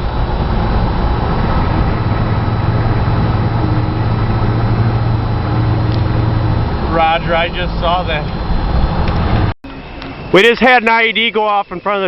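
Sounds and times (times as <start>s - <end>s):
road noise: 0.0s - 12.0s
vehicle engine droning: 0.0s - 12.0s.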